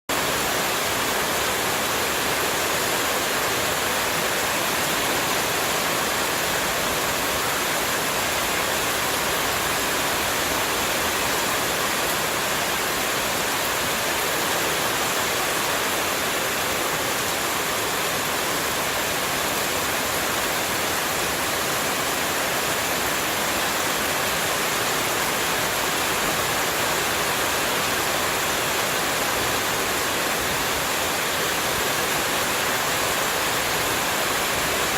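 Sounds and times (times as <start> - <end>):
running water rushing hiss: 0.1 - 34.9.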